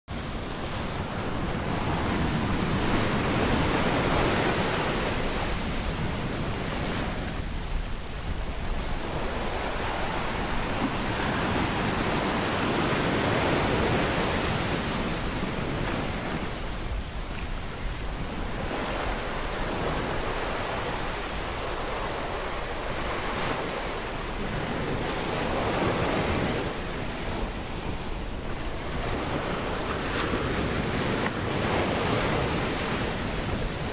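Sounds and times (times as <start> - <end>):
ocean surf on beach: 0.1 - 33.9.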